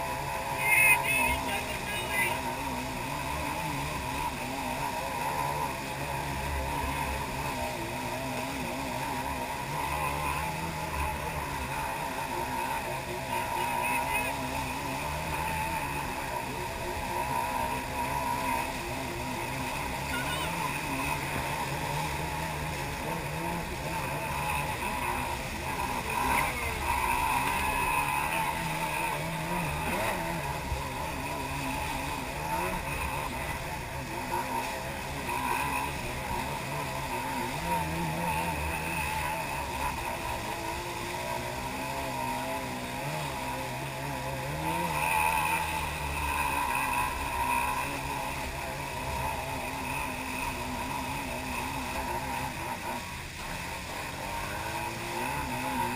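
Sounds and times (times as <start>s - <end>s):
jet ski engine running: 0.0s - 55.9s
water and wind rushing: 0.0s - 55.9s.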